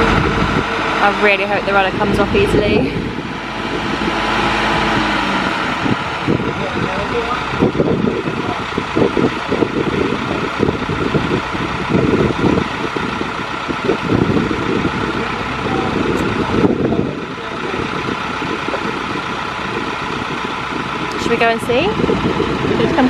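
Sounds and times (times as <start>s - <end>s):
travel lift engine rumbling: 0.0s - 23.0s.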